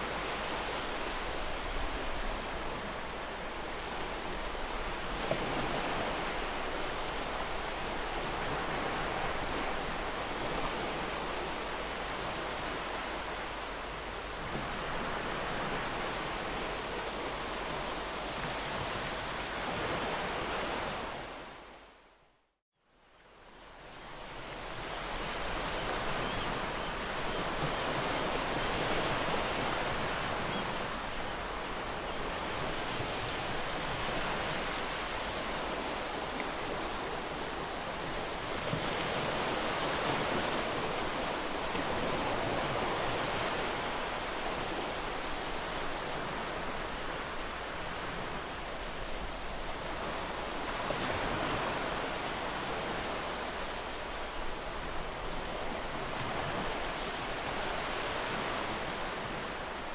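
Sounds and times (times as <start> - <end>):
ocean surf breaking on shore: 0.0 - 21.7, 24.2 - 59.9.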